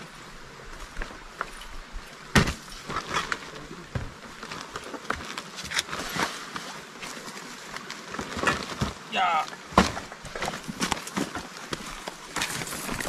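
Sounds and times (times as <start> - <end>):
camping gear knocks and clatter: 1.0 - 13.0.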